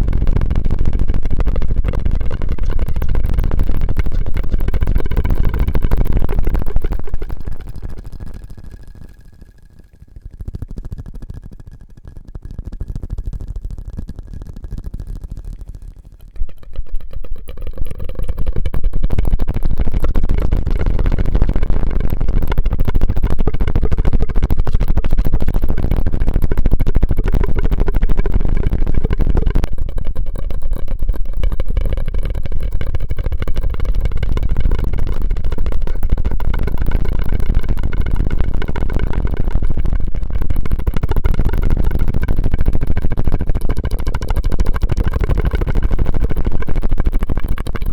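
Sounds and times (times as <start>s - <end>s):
drinking straw crackling rattle: 0.0s - 47.9s.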